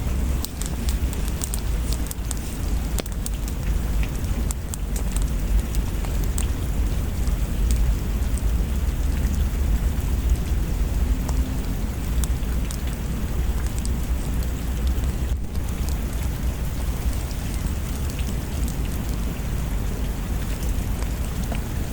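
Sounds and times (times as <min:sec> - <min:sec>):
low continuous rumble: 0:00.0 - 0:21.9
steady rain: 0:00.0 - 0:21.9.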